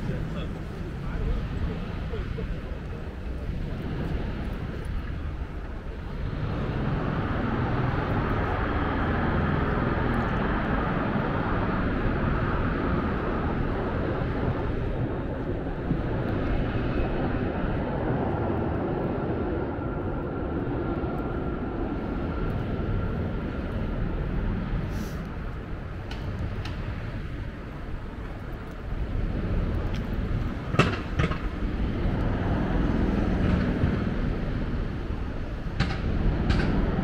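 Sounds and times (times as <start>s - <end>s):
aircraft engine rumble: 0.0s - 37.0s.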